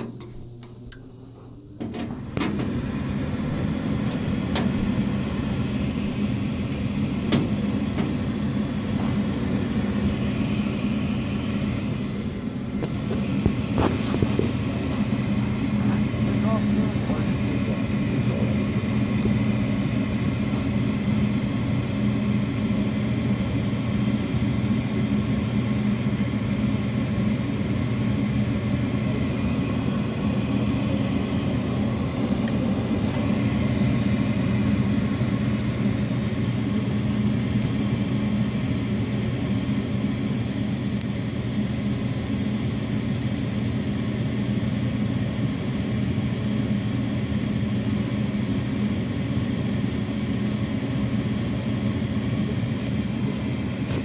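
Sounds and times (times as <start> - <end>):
furnace fan motor hum: 0.0 - 54.0.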